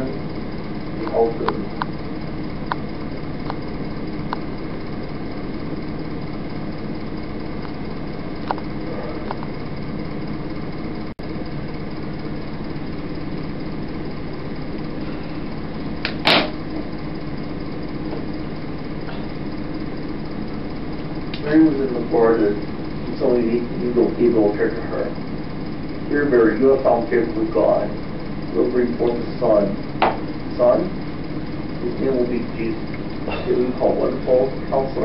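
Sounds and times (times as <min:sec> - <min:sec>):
analogue recording hum and hiss: 0:00.0 - 0:35.0
loud burst of noise: 0:00.0 - 0:35.0.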